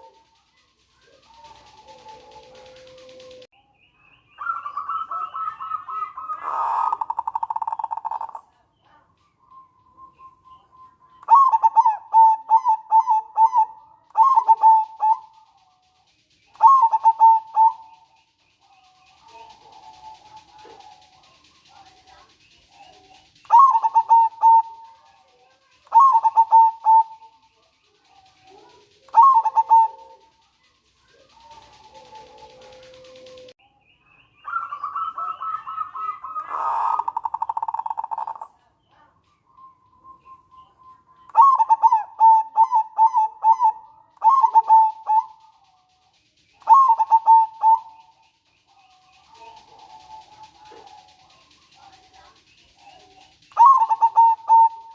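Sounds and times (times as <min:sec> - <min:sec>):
dove cooing: 0:00.0 - 0:03.5, 0:04.4 - 0:09.1, 0:10.0 - 0:33.5, 0:34.5 - 0:54.9.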